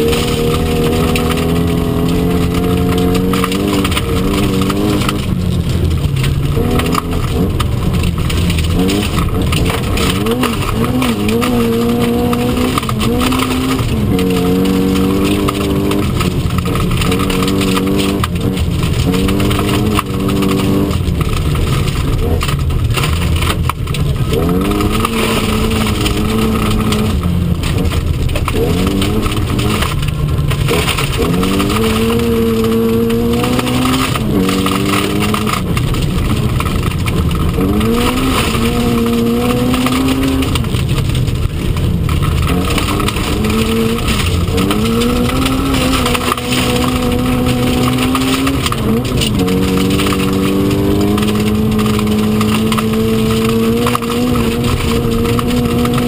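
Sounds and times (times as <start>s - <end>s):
car engine revving: 0.0s - 56.0s
tyre and gravel noise: 0.0s - 56.0s.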